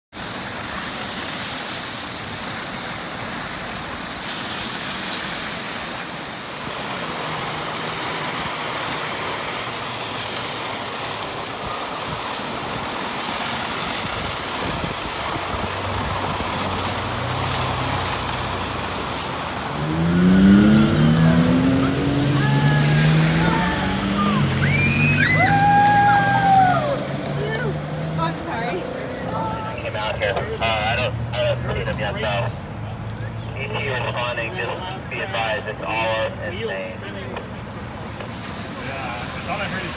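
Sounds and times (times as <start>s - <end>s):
water spray rushing: 0.1s - 32.8s, 37.2s - 39.9s.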